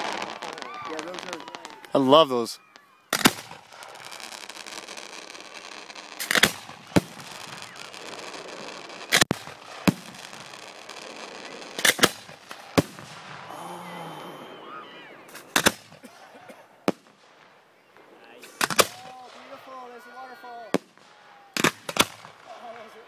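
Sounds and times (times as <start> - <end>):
firework shells bursting: 0.0 - 13.5, 15.3 - 16.1, 16.8 - 19.7, 20.7 - 22.9.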